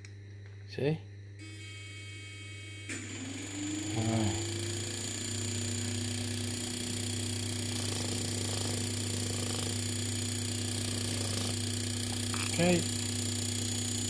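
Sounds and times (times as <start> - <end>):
fan motor whine and hum: 0.0 - 14.0.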